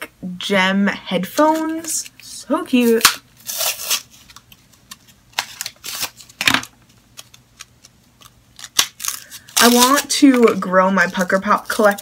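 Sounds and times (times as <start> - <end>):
plastic packaging crinkling: 1.4 - 12.0.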